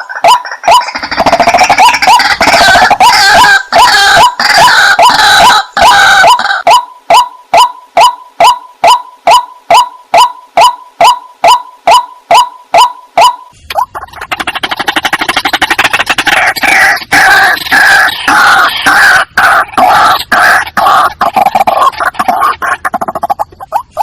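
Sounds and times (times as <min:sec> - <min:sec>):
bird croaking calls: 0:00.0 - 0:24.0.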